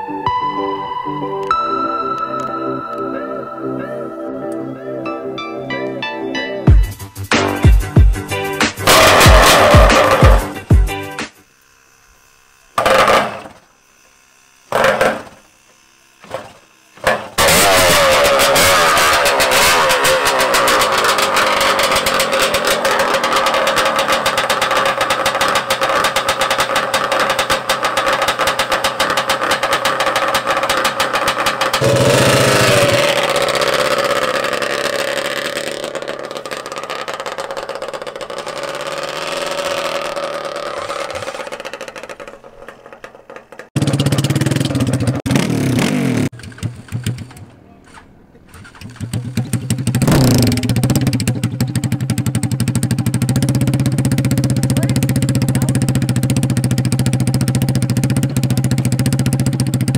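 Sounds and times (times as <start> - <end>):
two-stroke quad engine starting and running: 6.7 - 59.9.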